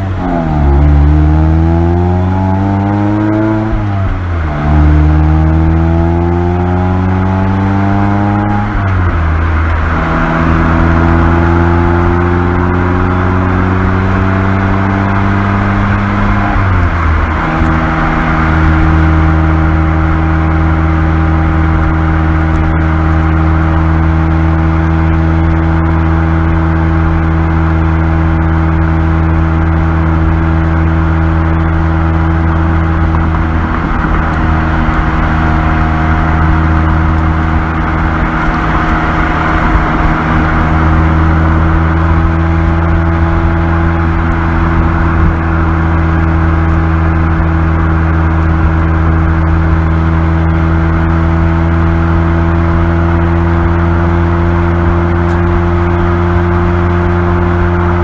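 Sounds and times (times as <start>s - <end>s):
car engine droning at low revs: 0.0s - 58.0s
tyre and road noise: 0.0s - 58.0s.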